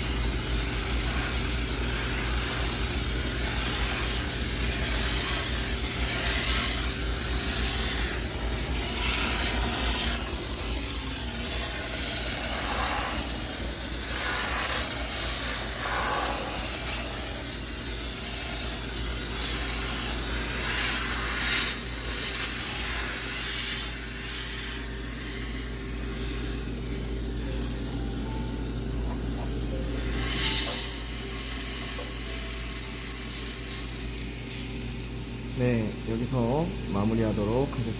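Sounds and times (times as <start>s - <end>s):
steam cleaner hissing: 0.0s - 37.9s.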